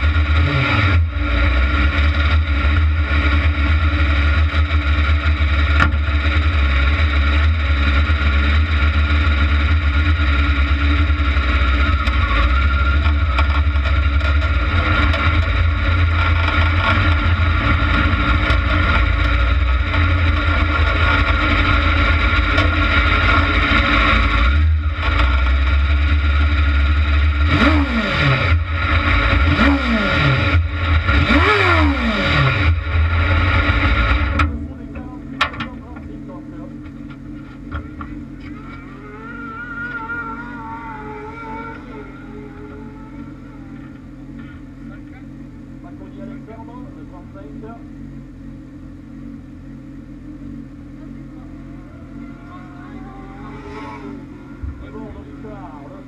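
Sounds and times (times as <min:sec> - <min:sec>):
buggy engine running and revving: 0:00.0 - 0:56.0.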